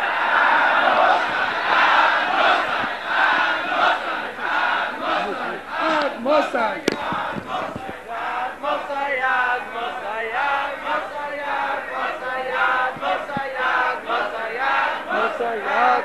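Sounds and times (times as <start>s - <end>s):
crowd of men singing in unison: 0.0s - 16.0s.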